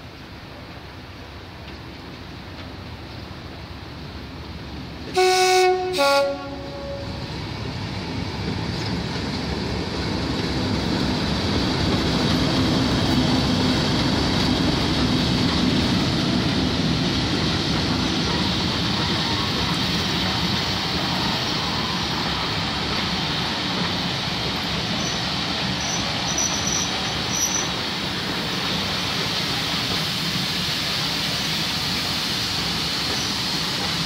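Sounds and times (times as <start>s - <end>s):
diesel locomotive passing: 0.1s - 34.0s.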